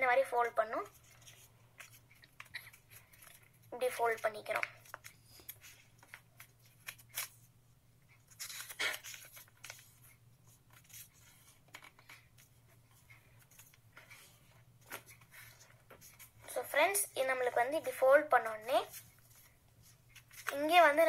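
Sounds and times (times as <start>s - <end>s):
paper rustling and crinkling: 0.8s - 7.5s, 8.1s - 16.5s, 18.8s - 21.0s.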